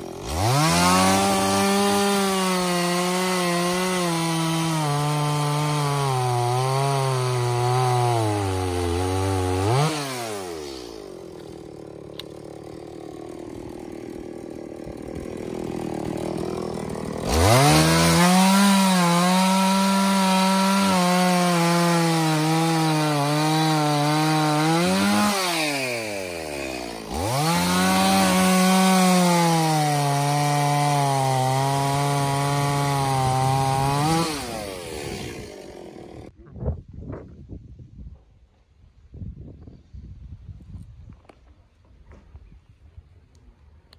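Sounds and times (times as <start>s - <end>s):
chainsaw cutting wood: 0.0s - 36.4s.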